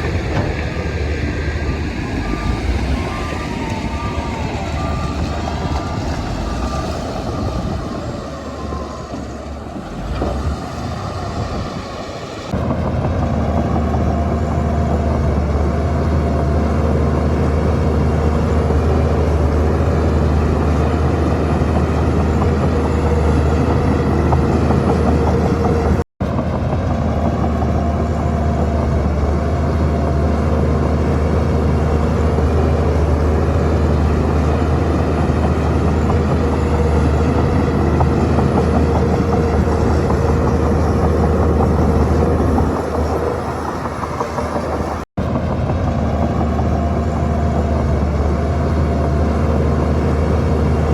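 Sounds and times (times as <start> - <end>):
diesel bulldozer engine drone: 0.0 - 50.9.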